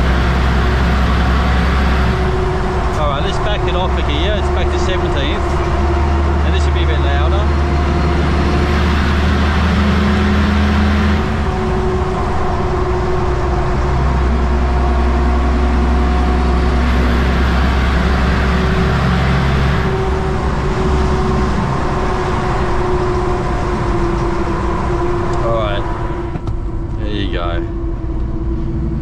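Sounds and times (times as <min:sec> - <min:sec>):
truck diesel engine under load: 0:00.0 - 0:29.0.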